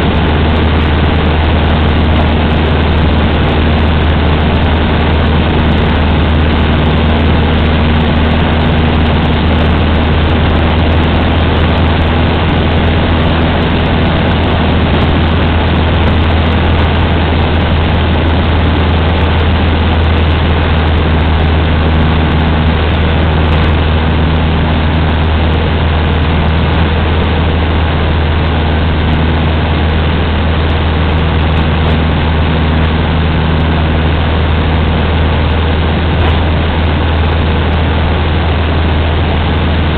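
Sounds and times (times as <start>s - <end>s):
aircraft engine and propeller drone: 0.0s - 39.9s
wind and airframe noise: 0.0s - 39.9s.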